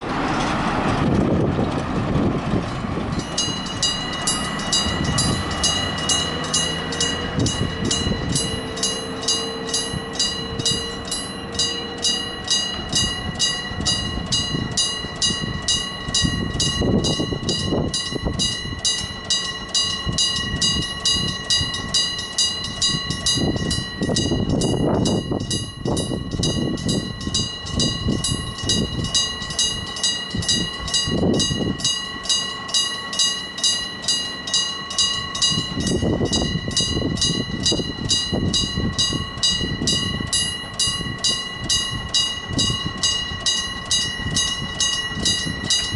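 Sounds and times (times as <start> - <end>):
train noise: 0.0 - 45.9
level crossing warning bell: 3.0 - 45.9.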